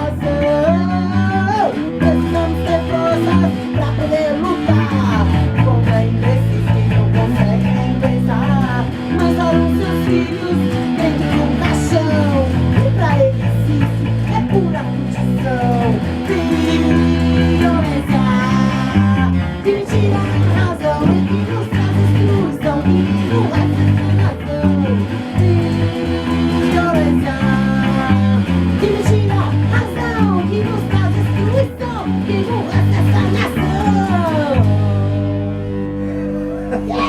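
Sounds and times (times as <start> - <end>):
bass guitar: 0.0 - 37.0
electric guitar: 0.0 - 37.0.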